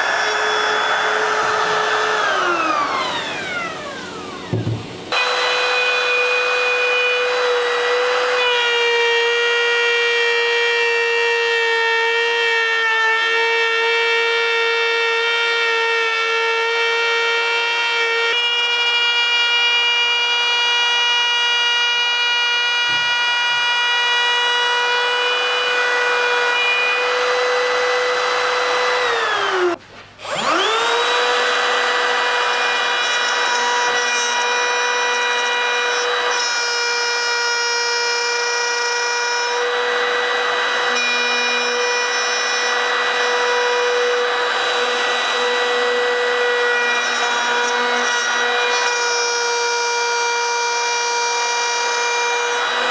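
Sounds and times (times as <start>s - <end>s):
router bit rasping in wood: 0.0s - 52.9s
router motor whining: 0.0s - 52.9s.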